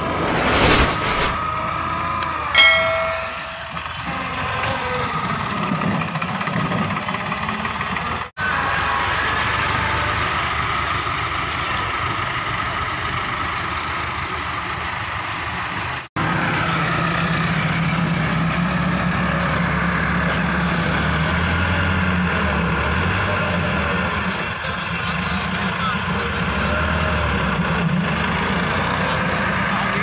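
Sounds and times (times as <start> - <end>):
tractor diesel engine under load: 3.8 - 30.0.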